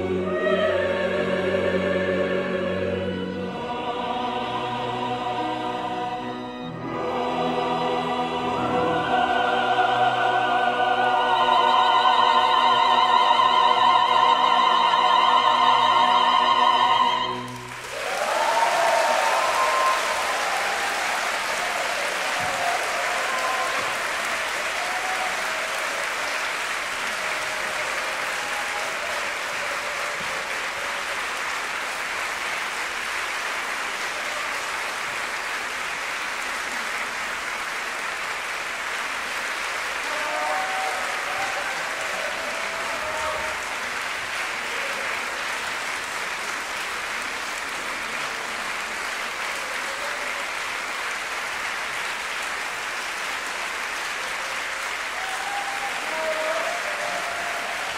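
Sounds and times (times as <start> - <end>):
audience applauding: 3.9 - 57.9.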